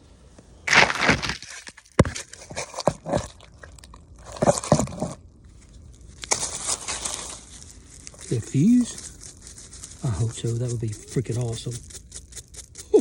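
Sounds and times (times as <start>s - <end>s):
dirt scraping and rustling: 0.4s - 13.0s.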